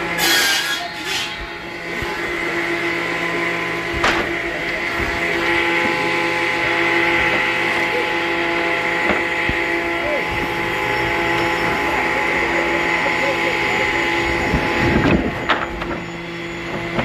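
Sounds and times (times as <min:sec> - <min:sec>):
woodworking machine motor hum: 0:00.0 - 0:17.0.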